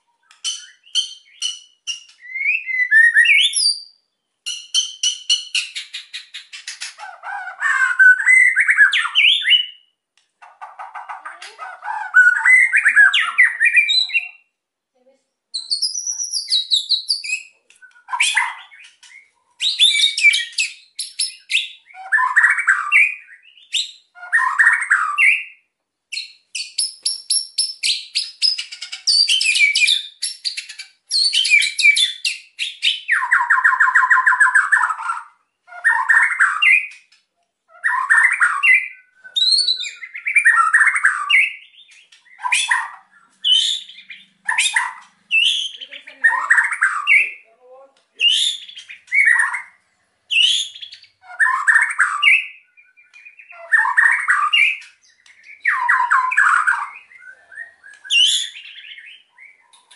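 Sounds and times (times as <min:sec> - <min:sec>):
songbird singing varied bursts: 0:00.0 - 0:59.9.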